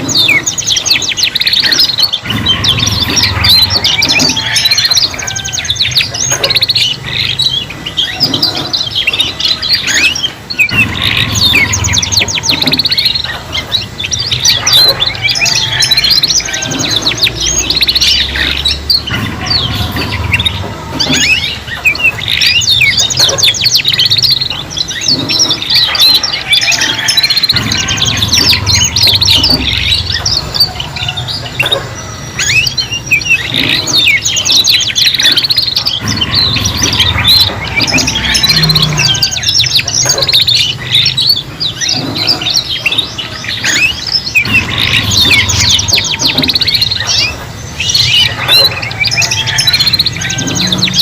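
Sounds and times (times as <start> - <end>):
canaries trilling and chirping: 0.0 - 51.0.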